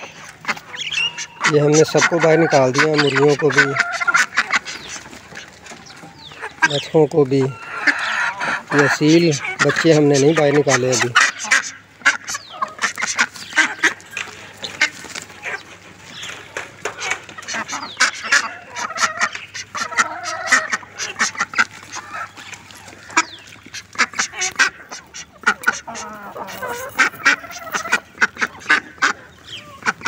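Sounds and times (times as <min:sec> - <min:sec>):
chickens clucking: 0:00.0 - 0:30.0
ducks quacking: 0:00.0 - 0:30.0
guineafowl squawking: 0:00.0 - 0:30.0.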